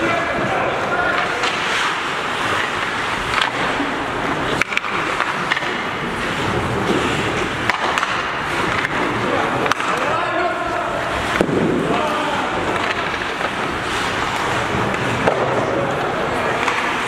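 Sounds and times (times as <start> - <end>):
skate blades scraping ice: 0.0 - 17.0
sticks and puck knocking: 1.1 - 17.0.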